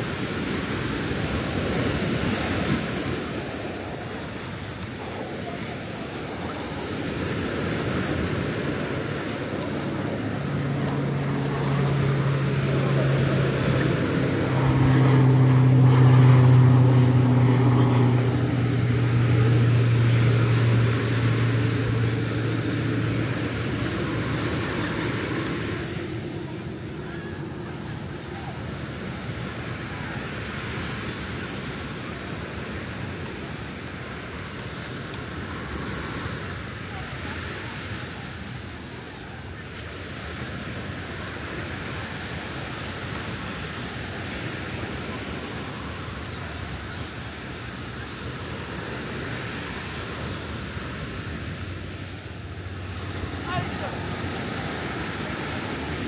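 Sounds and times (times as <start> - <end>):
low engine hum: 0.0 - 56.0
ocean surf washing onto beach: 0.0 - 56.0.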